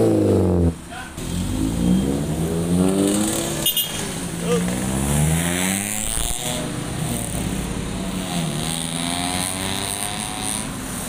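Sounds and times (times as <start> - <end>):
car engines passing: 0.0 - 11.0.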